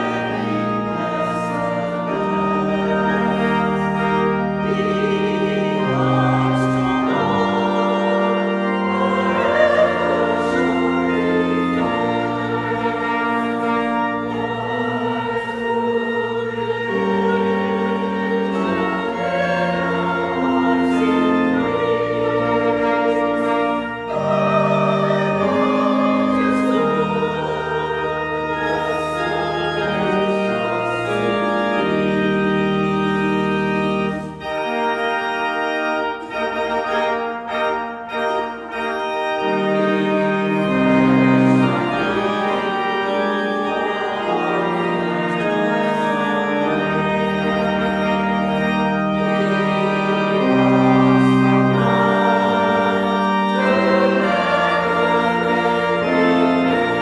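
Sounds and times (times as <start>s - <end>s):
church organ playing a hymn: 0.0s - 57.0s.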